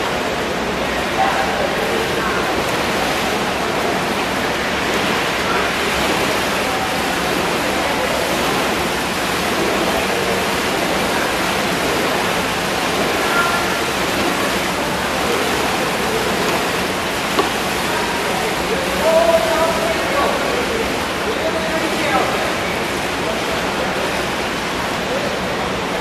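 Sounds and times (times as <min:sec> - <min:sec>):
paddles splashing water: 0:00.0 - 0:26.0.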